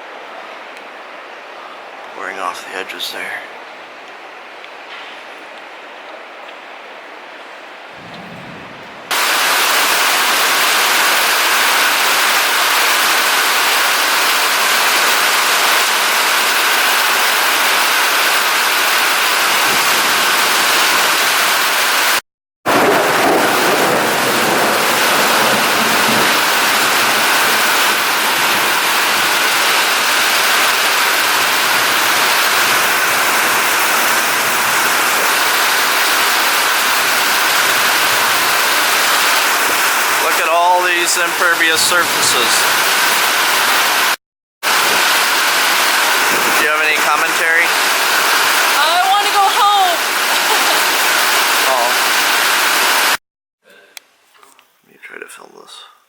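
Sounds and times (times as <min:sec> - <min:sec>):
heavy rain falling: 0:05.6 - 0:53.2.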